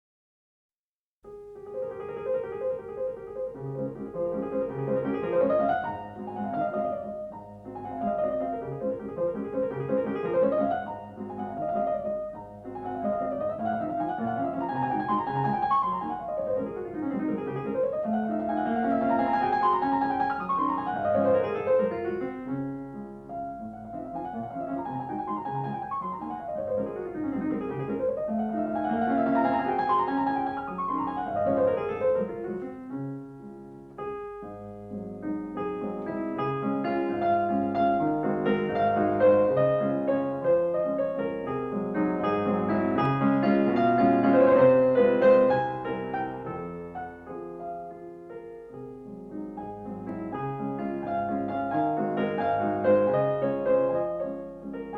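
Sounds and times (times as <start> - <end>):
piano arpeggios: 1.3 - 54.9.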